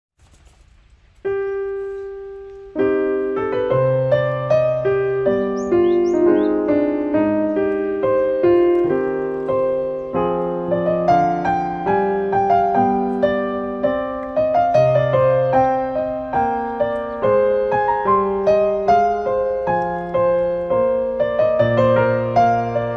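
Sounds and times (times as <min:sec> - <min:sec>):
piano music: 0:01.2 - 0:22.9.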